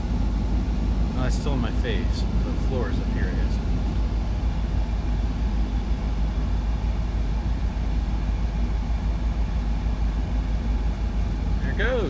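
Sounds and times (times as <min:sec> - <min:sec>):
blower fan rushing air: 0:00.0 - 0:12.0.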